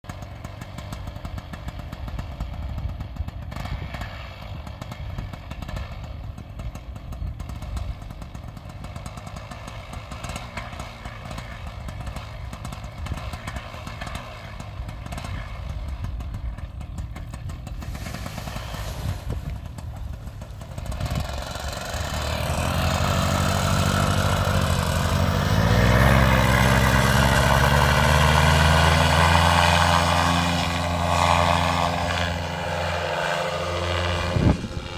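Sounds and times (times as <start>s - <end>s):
paramotor engine running: 0.1s - 34.9s.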